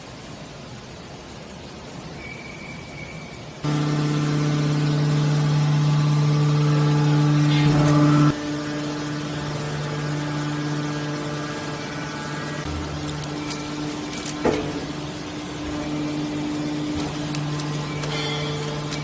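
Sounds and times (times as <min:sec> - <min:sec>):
hydraulic power unit humming: 0:03.6 - 0:19.0.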